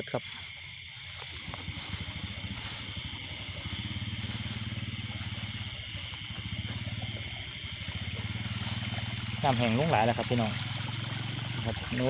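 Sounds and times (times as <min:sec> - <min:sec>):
insects trilling: 0:00.0 - 0:12.0
low pulsing frog drone: 0:00.0 - 0:12.0.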